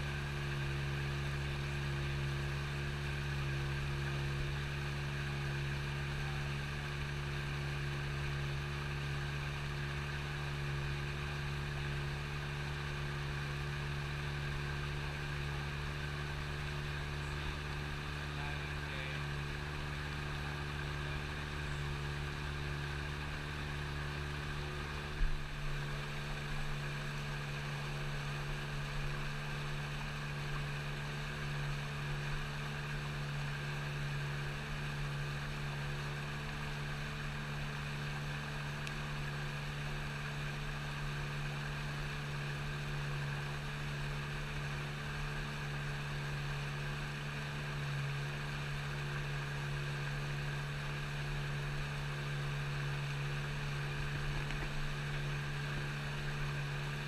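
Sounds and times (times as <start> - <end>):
boat motor humming: 0.0 - 57.0.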